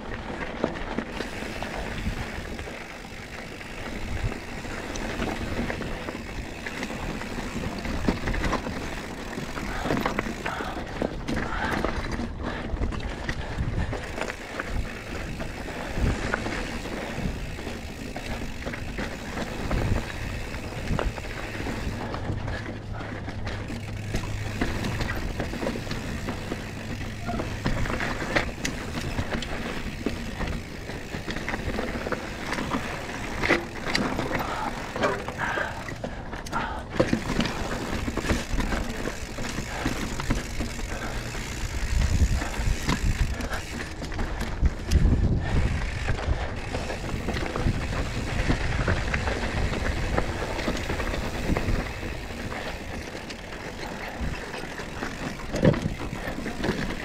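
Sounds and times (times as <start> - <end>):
bike rattling: 0.0 - 57.0
tyres rolling on dirt and rock: 0.0 - 57.0.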